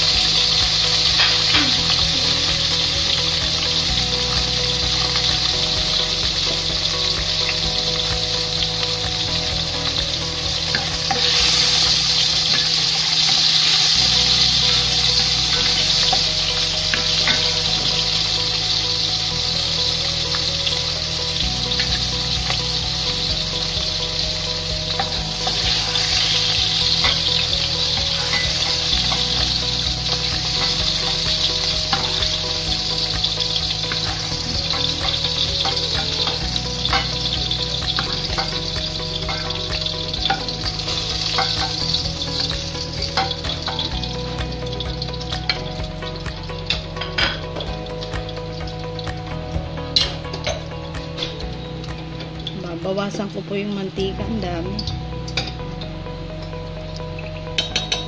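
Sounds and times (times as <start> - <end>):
pork fat sizzling in oil: 0.0 - 58.0.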